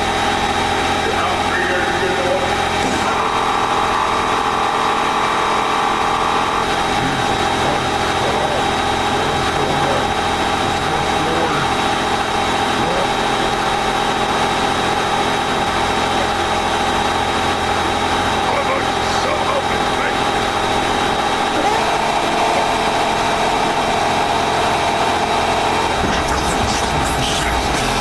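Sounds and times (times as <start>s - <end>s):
low drone: 0.0s - 28.0s
steady tones: 0.0s - 28.0s.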